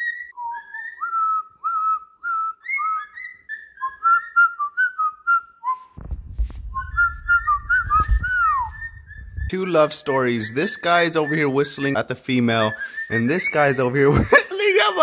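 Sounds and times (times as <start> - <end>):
cockatiel whistling: 0.0 - 6.0, 6.7 - 15.0.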